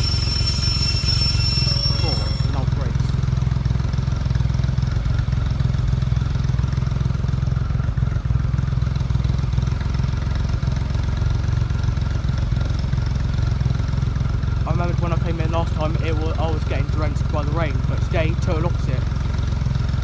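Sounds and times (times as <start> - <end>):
diesel trains idling: 0.0 - 20.0.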